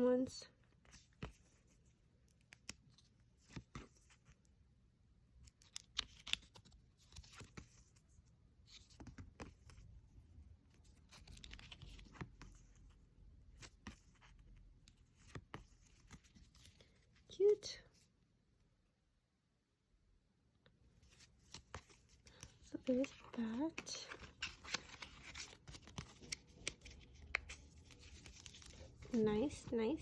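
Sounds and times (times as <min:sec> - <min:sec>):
paper cards rustling: 0:00.6 - 0:04.5, 0:05.4 - 0:17.3, 0:21.0 - 0:30.0.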